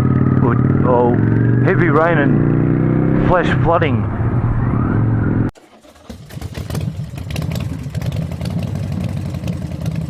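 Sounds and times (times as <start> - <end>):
motorcycle engine running: 0.0 - 3.5, 4.2 - 10.0.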